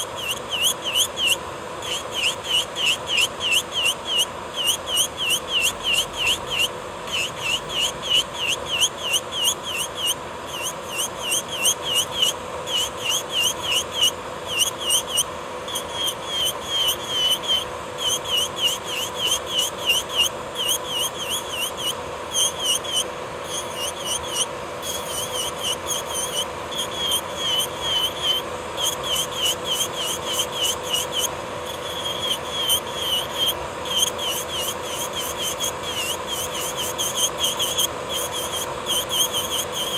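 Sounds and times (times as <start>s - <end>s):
electric nail drill filing: 0.0s - 39.9s.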